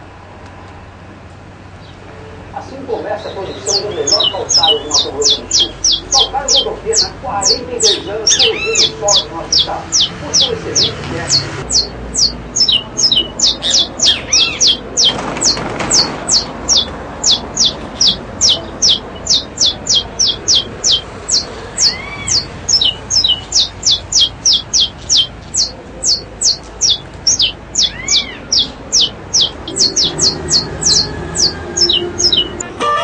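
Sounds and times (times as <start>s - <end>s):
small birds chirping: 1.6s - 32.7s
lower arched bird call: 3.2s - 32.7s.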